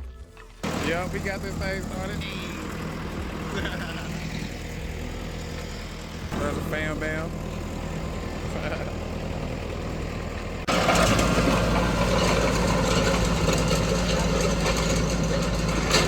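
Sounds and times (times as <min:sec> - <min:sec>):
engine idling: 0:00.5 - 0:16.0.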